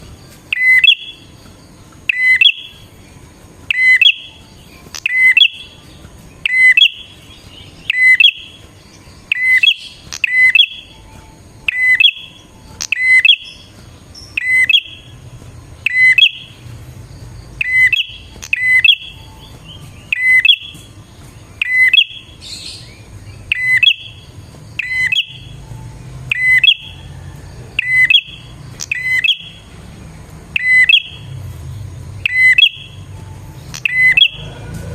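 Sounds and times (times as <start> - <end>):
bird chirping call: 0.0 - 34.9.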